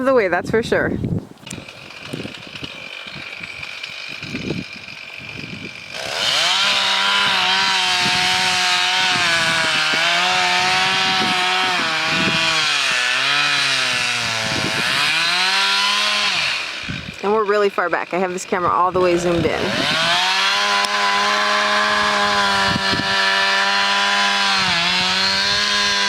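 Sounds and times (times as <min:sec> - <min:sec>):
chainsaw cutting wood: 0:01.4 - 0:26.0.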